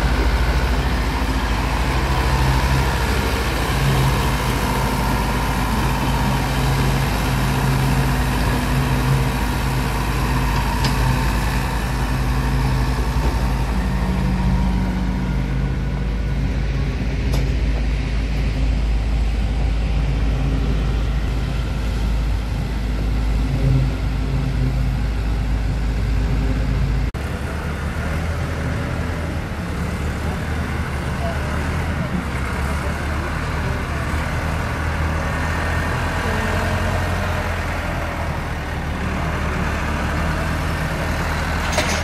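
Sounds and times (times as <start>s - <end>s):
tractor engines droning: 0.0s - 42.0s.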